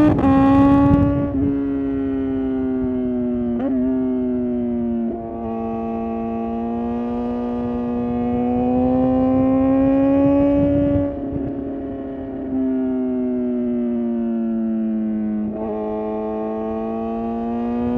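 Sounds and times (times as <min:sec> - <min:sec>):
motorcycle engine at high revs: 0:00.0 - 0:17.9.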